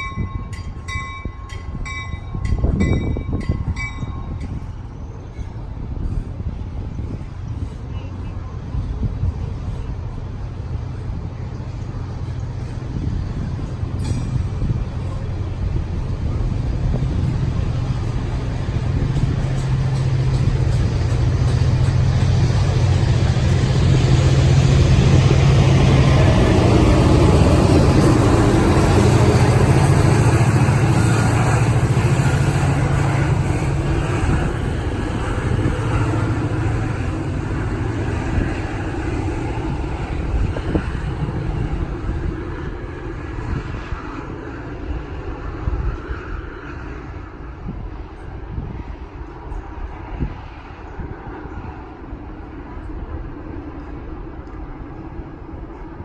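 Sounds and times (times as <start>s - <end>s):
rolling train wheels: 0.0s - 56.0s
train engine drone: 0.0s - 56.0s.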